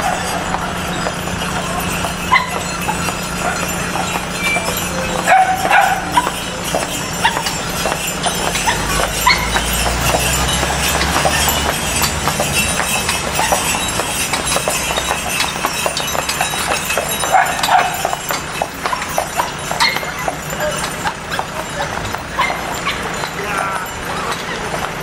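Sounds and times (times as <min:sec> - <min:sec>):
horse hooves on hard street: 0:00.0 - 0:25.0.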